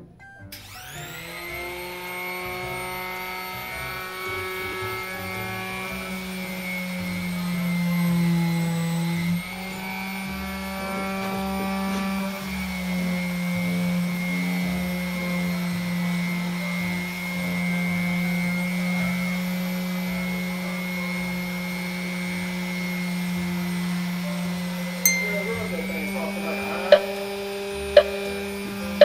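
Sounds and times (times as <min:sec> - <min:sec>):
electric orbital sander running: 0:00.6 - 0:29.0.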